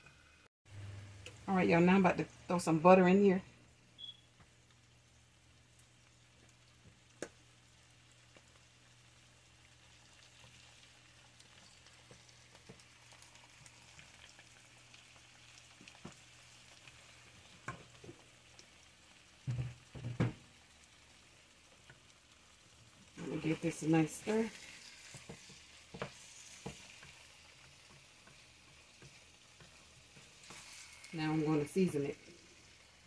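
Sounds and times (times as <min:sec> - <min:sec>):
butter sizzling in a hot pan: 0:04.0 - 0:33.0.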